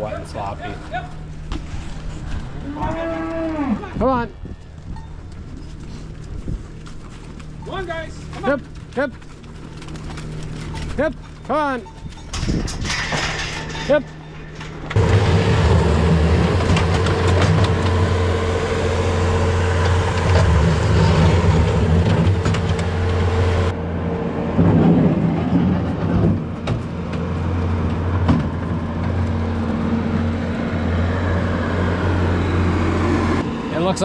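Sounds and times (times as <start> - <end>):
farm machine engine humming: 4.0 - 34.0.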